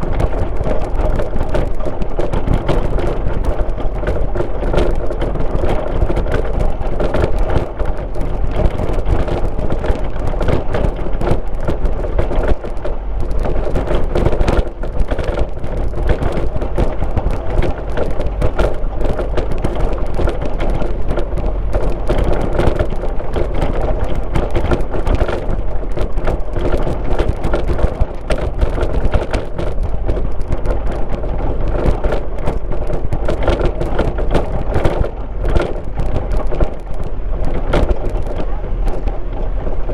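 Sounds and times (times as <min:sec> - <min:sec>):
small knocks and crackles: 0:00.0 - 0:39.9
tyre and road noise: 0:00.0 - 0:39.9.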